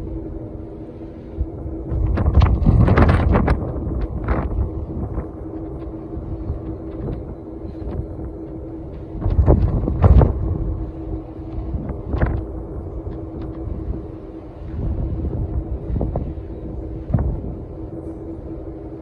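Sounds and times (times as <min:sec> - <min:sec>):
low machinery hum: 0:00.0 - 0:19.0
wind buffeting microphone: 0:00.0 - 0:19.0.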